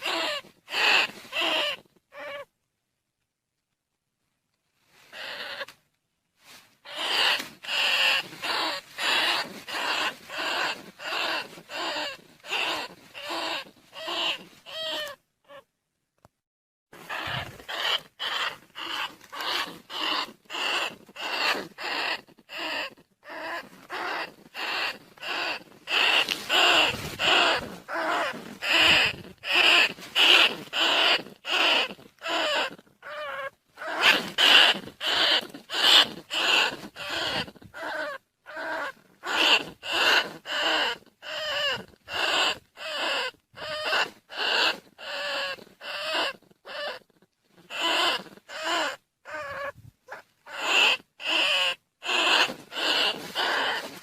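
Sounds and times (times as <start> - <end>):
rat squeaks: 0.0 - 2.5, 5.1 - 5.8, 6.8 - 15.7, 17.0 - 54.0.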